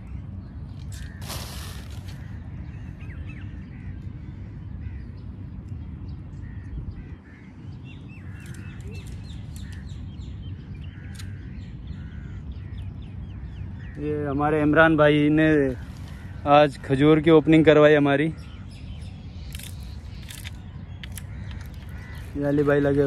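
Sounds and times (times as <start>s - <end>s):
birds chirping and calling: 0.0s - 23.0s
steady low rumble: 0.0s - 23.0s.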